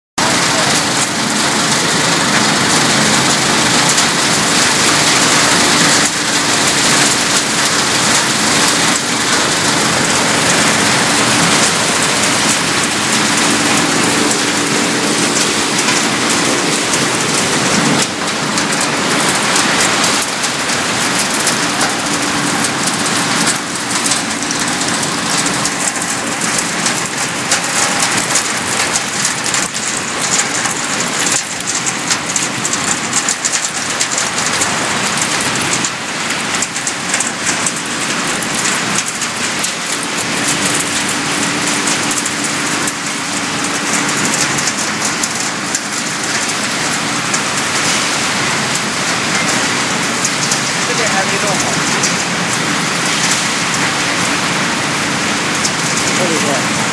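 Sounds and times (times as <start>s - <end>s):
machinery clicking and rattling: 0.2s - 56.9s.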